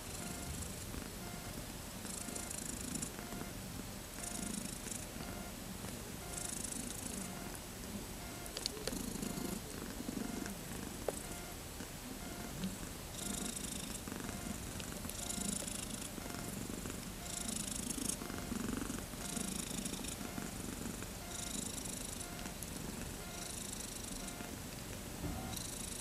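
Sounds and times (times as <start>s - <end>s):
cat purring: 0.1s - 3.5s, 4.2s - 5.5s, 6.2s - 7.6s, 8.6s - 11.5s, 12.3s - 24.6s, 25.3s - 26.0s.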